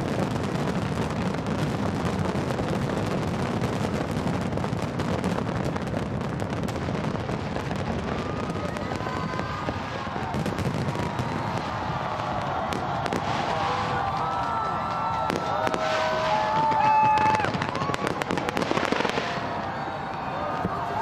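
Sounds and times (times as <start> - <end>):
fireworks crackling and popping: 0.0 - 21.0
fireworks whistling: 0.0 - 21.0.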